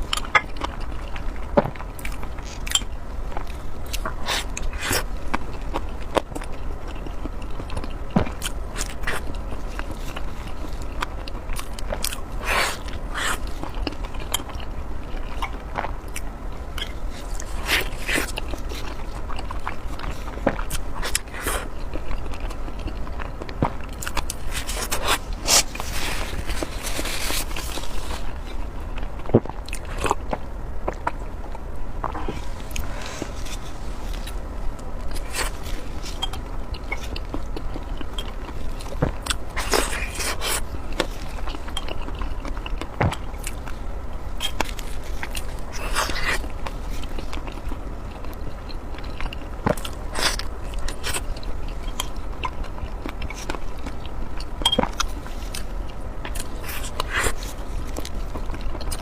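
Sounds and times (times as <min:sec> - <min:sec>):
biting and chewing: 0:00.0 - 0:59.0
crackly crunching: 0:00.0 - 0:59.0.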